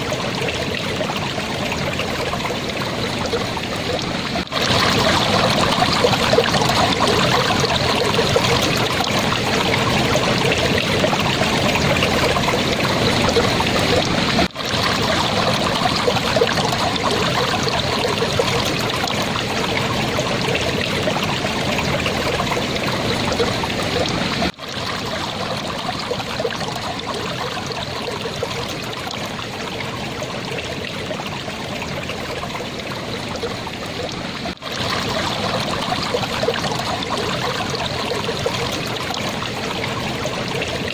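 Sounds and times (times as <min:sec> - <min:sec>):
water flowing and babbling: 0:00.0 - 0:40.9.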